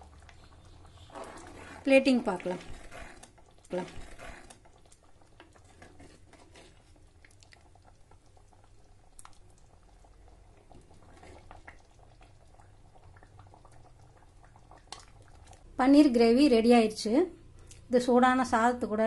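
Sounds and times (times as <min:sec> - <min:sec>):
thick gravy bubbling: 0:00.0 - 0:16.6.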